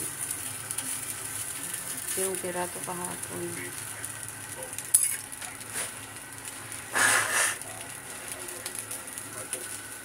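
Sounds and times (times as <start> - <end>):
fish sizzling in oil: 0.0 - 10.0.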